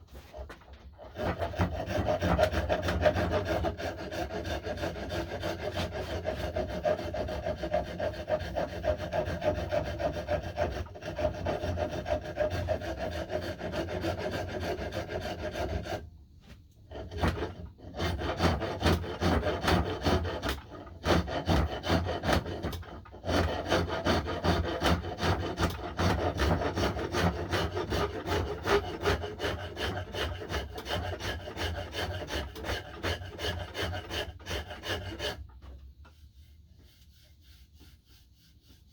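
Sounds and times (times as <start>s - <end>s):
hand tool rasping wood: 0.0s - 16.0s, 16.9s - 35.8s.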